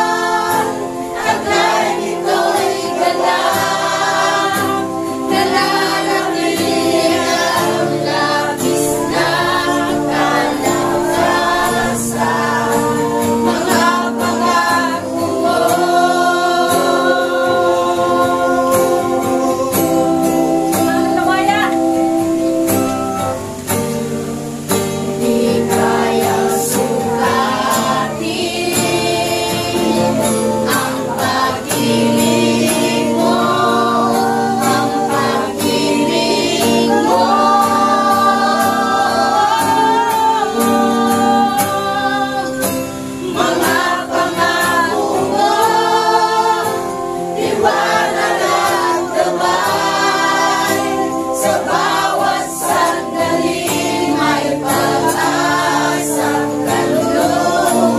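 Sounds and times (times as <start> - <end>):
congregation singing worship song: 0.0 - 57.9
sustained accompaniment chords: 0.0 - 57.9.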